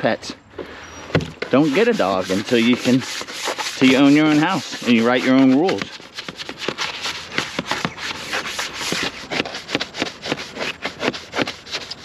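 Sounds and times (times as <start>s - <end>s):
brush scrubbing container: 1.3s - 12.0s.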